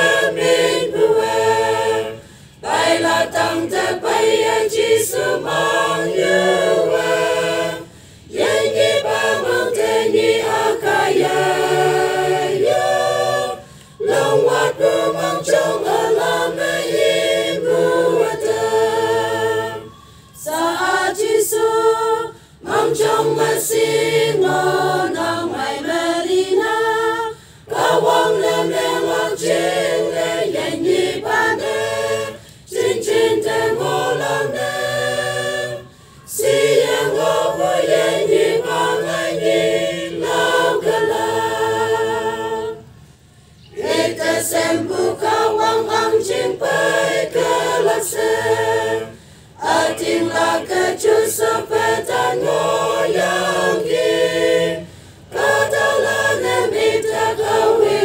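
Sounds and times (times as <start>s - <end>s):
mixed choir singing a hymn: 0.0s - 58.0s.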